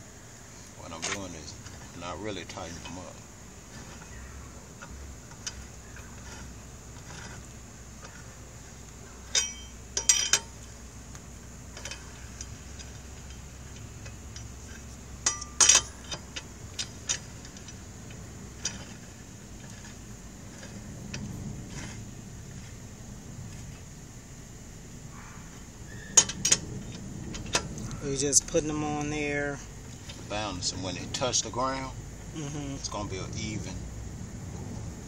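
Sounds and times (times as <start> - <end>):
metal lug nuts clinking: 0.8 - 22.8, 25.6 - 31.9.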